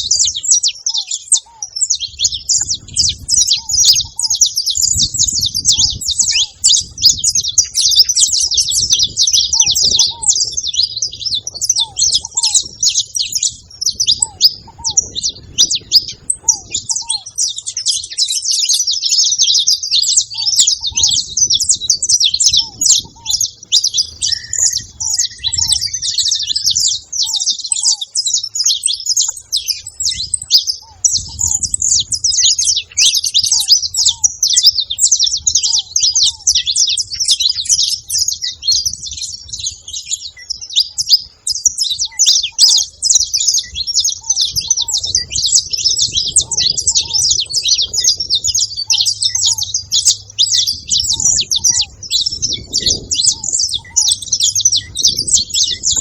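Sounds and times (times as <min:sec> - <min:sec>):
faint low bird calls: 0:00.0 - 0:56.0
finches chirping: 0:00.0 - 0:56.0.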